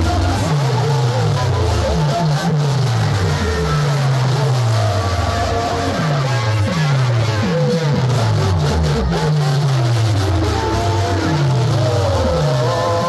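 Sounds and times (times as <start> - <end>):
electronic dance music with deep bass: 0.0 - 13.0.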